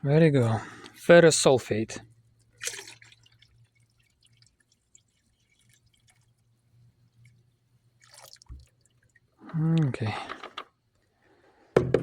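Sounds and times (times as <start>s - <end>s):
low steady hum: 0.0s - 11.6s.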